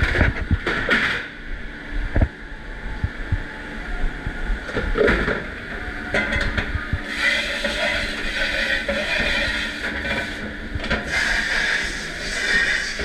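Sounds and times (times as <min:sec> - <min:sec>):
machine drone: 0:00.0 - 0:13.0.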